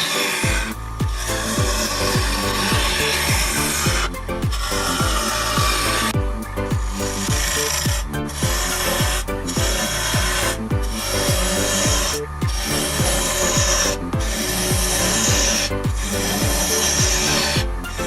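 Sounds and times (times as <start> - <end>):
gouge scraping wood on lathe: 0.0 - 6.2, 6.9 - 18.0
electronic music with kick drum: 0.0 - 18.0.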